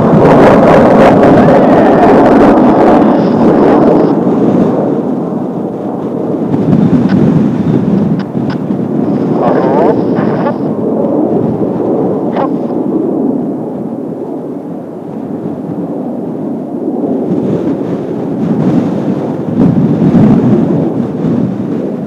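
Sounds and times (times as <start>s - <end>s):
distant jet roar: 0.0s - 22.0s
wind on microphone: 0.0s - 22.0s.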